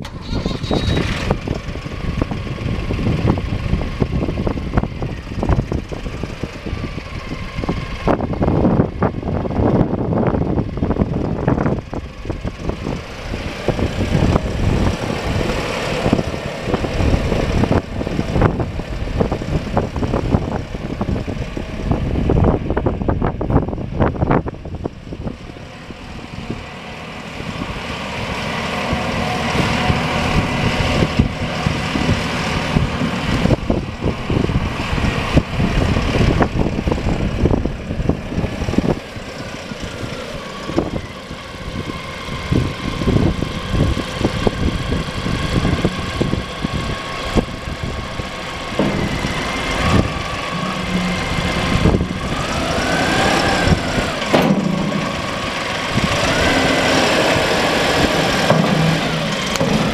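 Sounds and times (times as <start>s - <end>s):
faint engine whine: 0.0s - 59.9s
tractor diesel engine running: 0.0s - 59.9s.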